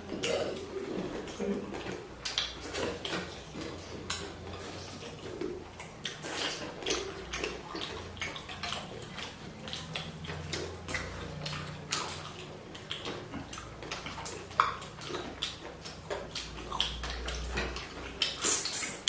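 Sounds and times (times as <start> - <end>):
wet chewing and mouth smacks: 0.0 - 19.0.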